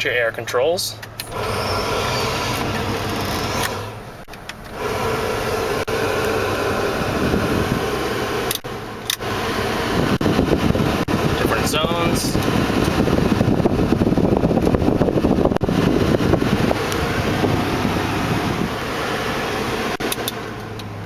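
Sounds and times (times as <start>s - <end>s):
blower fan blowing air: 1.1s - 21.0s.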